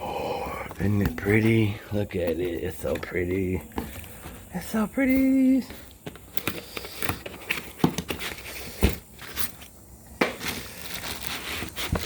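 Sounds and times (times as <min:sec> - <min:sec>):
packing material crinkling: 0:00.8 - 0:12.0.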